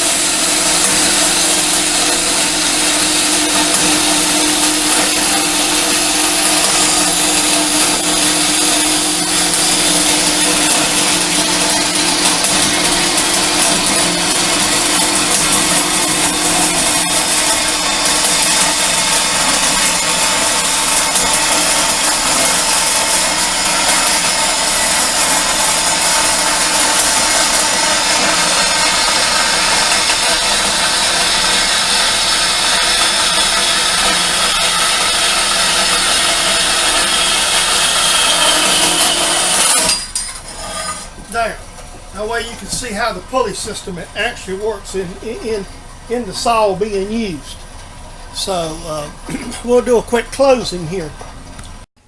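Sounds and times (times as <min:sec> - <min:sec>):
band saw grinding through metal: 0:00.0 - 0:51.2.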